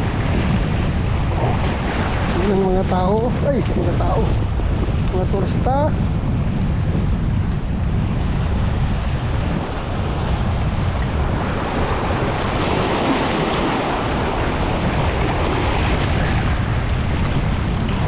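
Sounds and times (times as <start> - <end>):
ocean waves breaking: 0.0 - 18.0
wind buffeting microphone: 0.0 - 18.0.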